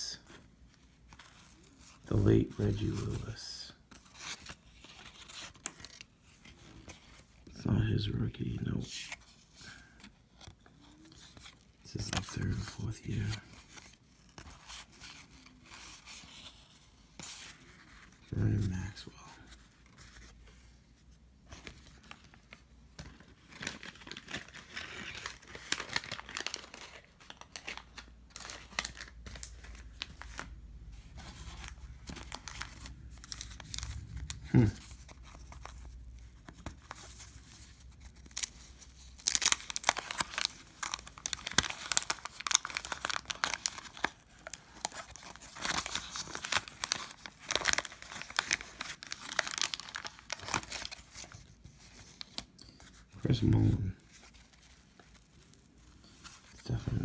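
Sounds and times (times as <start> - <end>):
card wrappers tearing and crinkling: 0.9 - 7.3, 10.8 - 19.1, 21.6 - 57.0.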